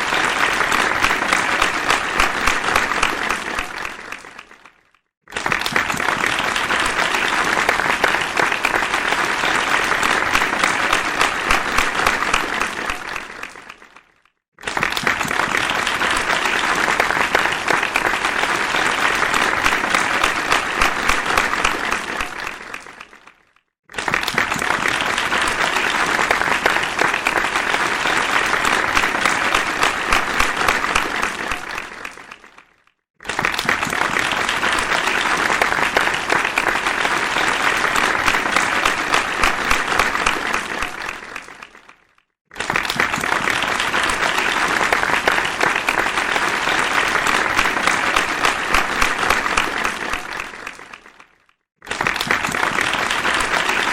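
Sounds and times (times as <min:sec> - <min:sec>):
crowd applause: 0:00.0 - 0:53.9.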